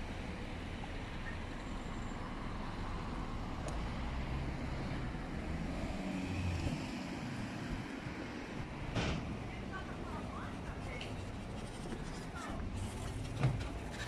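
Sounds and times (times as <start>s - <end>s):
street traffic noise: 0.0s - 14.0s
vehicle engine rumble: 0.0s - 14.0s.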